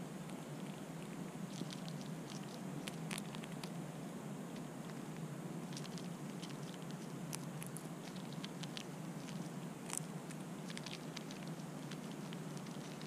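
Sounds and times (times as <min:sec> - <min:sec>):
squirrel crunching corn kernels: 0:00.1 - 0:13.0.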